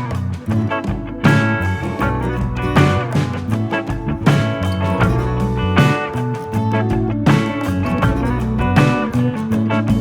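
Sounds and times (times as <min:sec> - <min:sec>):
guitar-led rock blues music: 0:00.0 - 0:10.0.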